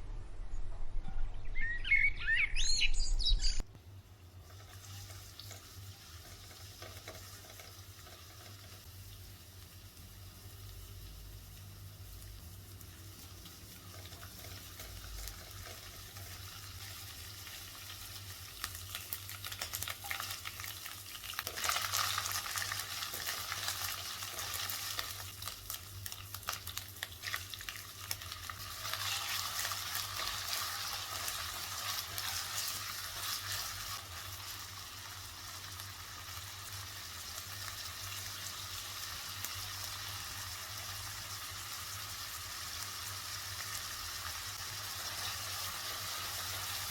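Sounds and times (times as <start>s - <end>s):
food sizzling in hot oil: 4.1s - 46.9s.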